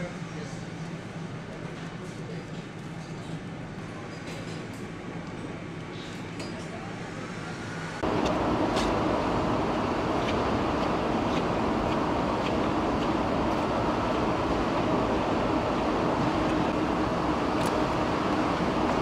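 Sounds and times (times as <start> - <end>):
factory hum: 0.0 - 19.0.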